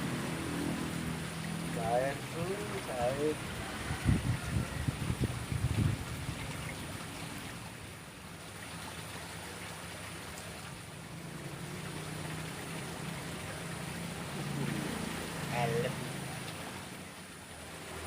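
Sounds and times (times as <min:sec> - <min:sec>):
water flowing in a ditch: 0:00.0 - 0:18.0.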